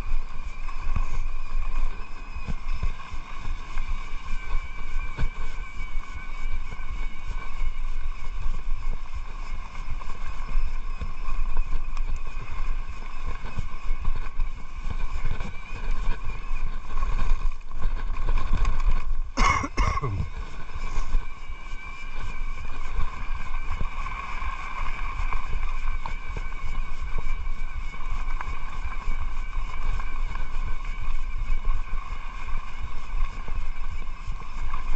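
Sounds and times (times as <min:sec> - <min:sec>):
bike tyre and trail rumble: 0:00.0 - 0:34.9
high-pitched whine: 0:00.0 - 0:34.9
wind on microphone: 0:00.0 - 0:34.9.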